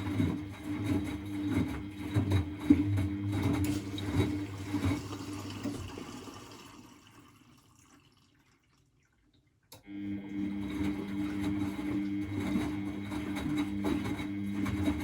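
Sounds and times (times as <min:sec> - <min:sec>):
washing machine motor hum: 0:00.0 - 0:08.2, 0:09.7 - 0:15.0.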